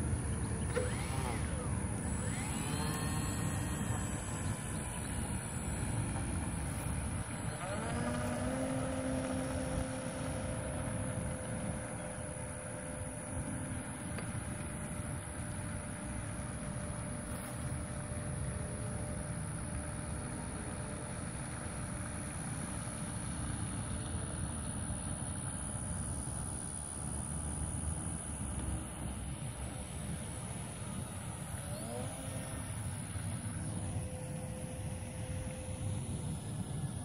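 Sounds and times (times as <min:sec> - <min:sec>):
model plane motor whine: 0:00.0 - 0:37.0.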